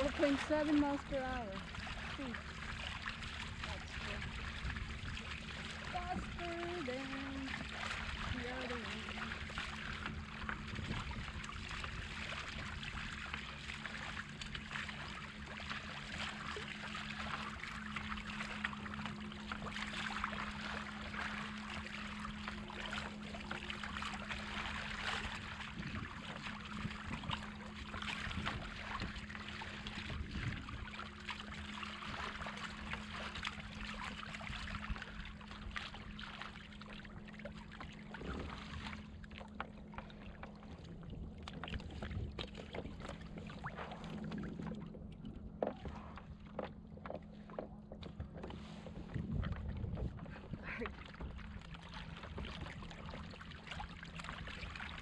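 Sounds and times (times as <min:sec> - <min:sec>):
low steady hum: 0:00.0 - 0:55.0
water rushing along kayak hull: 0:00.0 - 0:55.0.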